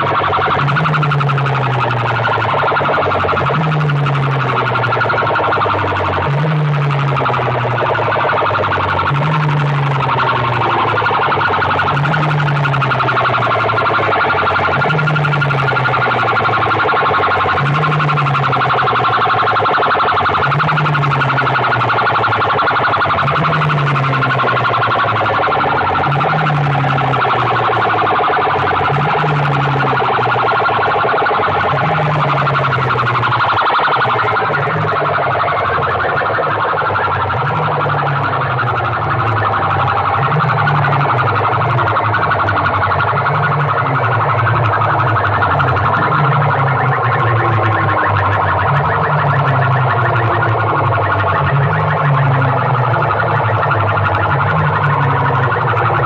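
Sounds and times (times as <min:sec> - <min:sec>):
loudspeakers blaring siren wail: 0:00.0 - 0:56.0.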